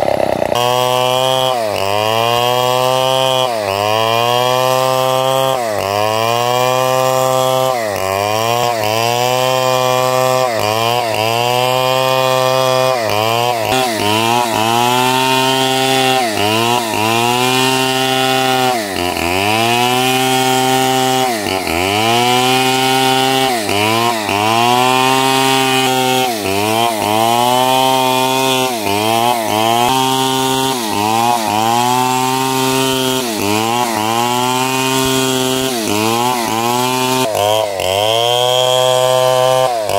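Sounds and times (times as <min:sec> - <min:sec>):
powered saw cutting timber: 0:00.0 - 0:39.9.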